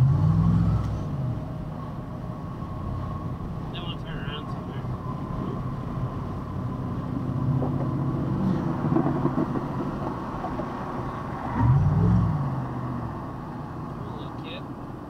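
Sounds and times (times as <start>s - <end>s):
vehicle cabin road and engine noise: 0.0s - 15.0s.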